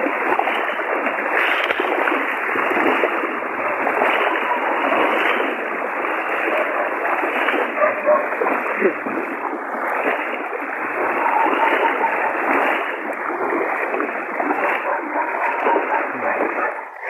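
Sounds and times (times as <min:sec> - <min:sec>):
floodwater rushing and splashing: 0:00.0 - 0:17.0.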